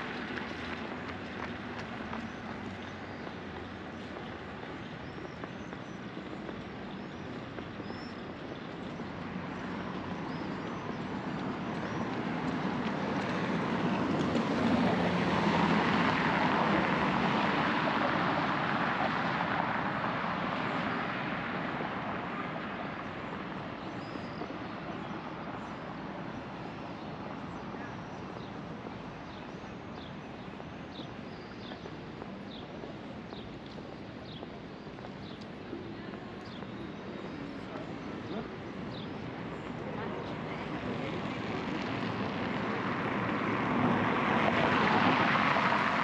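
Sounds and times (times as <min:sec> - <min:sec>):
city traffic hum: 0:00.0 - 0:46.0.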